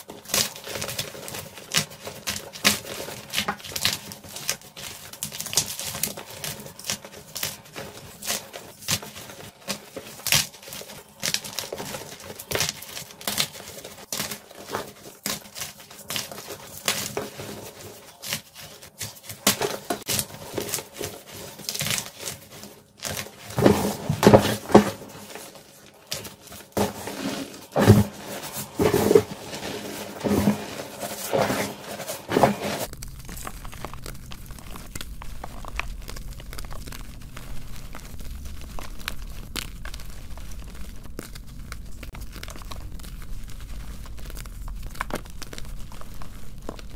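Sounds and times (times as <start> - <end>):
chalk crunching in hands: 0.0 - 46.9.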